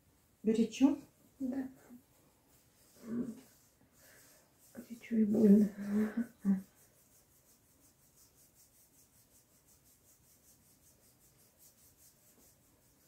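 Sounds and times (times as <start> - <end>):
hands rubbing oiled skin: 1.1 - 13.0.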